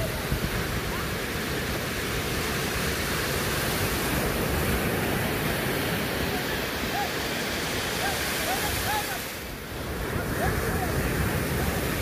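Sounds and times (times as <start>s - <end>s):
surf on beach: 0.0s - 12.0s
wind rumble on microphone: 0.0s - 12.0s.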